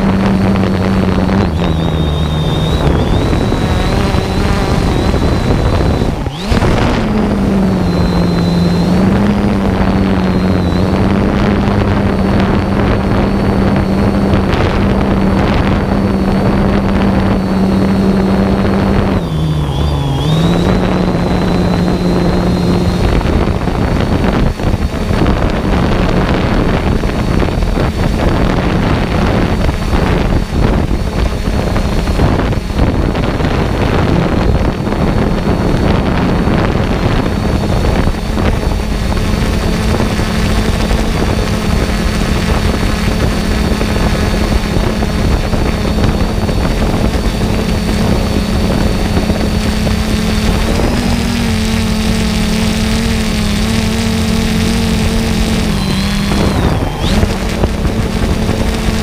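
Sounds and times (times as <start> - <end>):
motor humming and whining: 0.0 - 59.0
wind buffeting microphone: 0.0 - 59.0.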